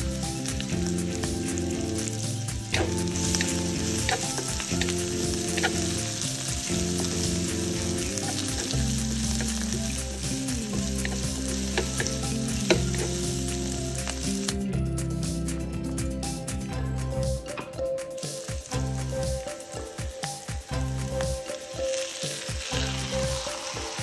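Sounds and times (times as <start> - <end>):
onion and garlic sizzling in oil: 0.0 - 16.5, 17.2 - 24.0.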